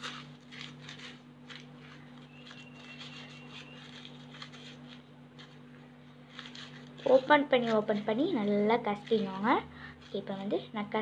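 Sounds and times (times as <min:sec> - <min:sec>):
paper crinkling and crumpling: 0:00.0 - 0:10.6
low electrical hum: 0:00.0 - 0:11.0.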